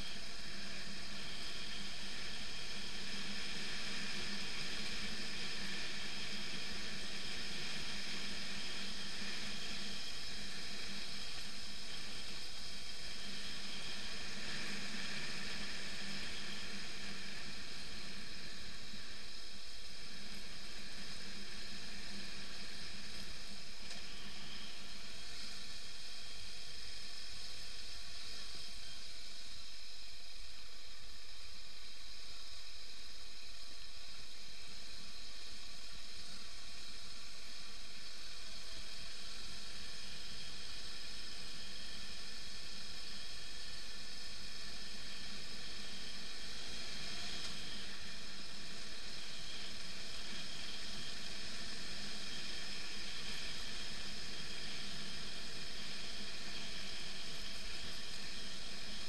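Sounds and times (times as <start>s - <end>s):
motorcycle road noise on gravel: 0.0s - 31.5s, 33.1s - 59.0s
wind hiss: 0.0s - 59.0s.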